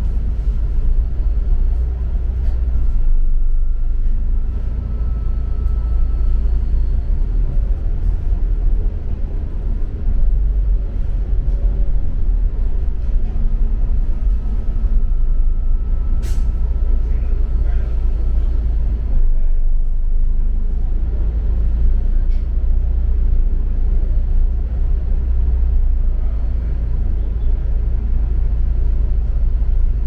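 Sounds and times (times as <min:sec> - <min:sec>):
bus engine drone: 0:00.0 - 0:30.0
road noise: 0:00.0 - 0:30.0.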